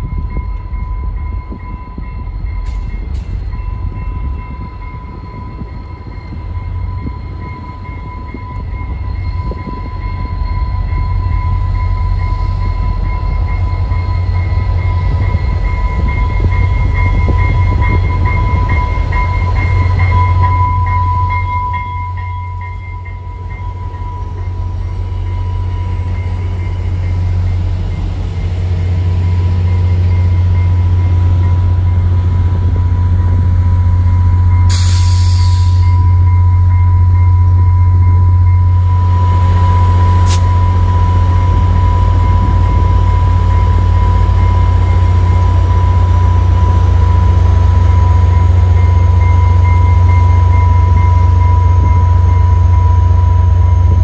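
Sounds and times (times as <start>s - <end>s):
diesel locomotive engine droning: 0.0s - 54.0s
train wheels squealing: 0.0s - 54.0s.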